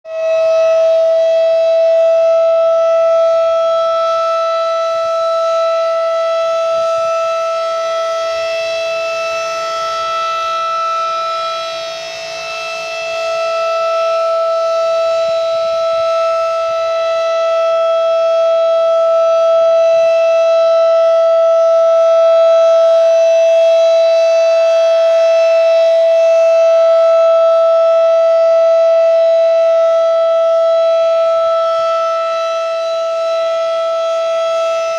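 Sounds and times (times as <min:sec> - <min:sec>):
warning siren steady tone: 0:00.0 - 0:34.9.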